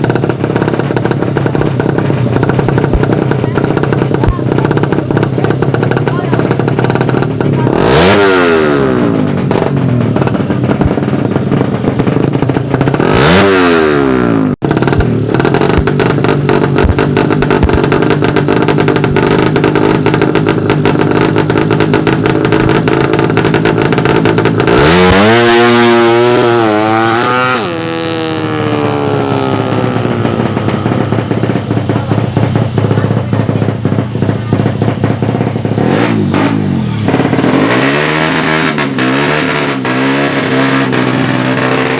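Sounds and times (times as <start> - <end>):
motorcycle engines revving high: 0.0 - 41.9.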